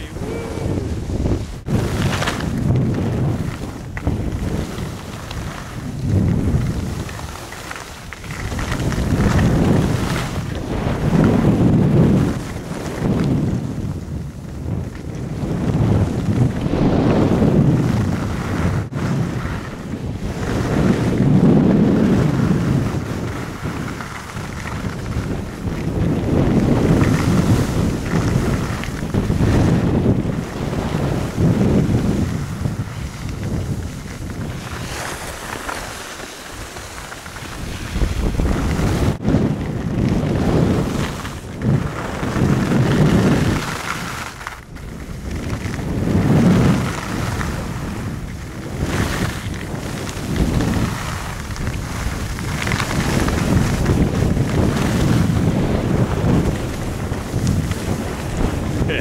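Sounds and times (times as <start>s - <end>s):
skis sliding over snow: 0.0s - 59.0s
wind buffeting microphone: 0.0s - 59.0s.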